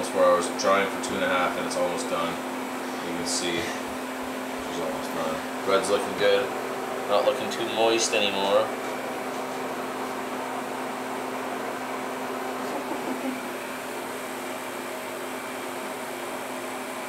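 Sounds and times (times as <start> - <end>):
freeze dryer humming: 0.0 - 17.0.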